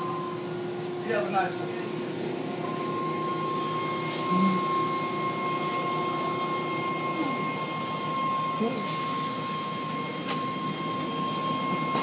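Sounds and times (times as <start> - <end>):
car wash machinery hum: 0.0 - 12.0
constant high whine: 0.0 - 12.0.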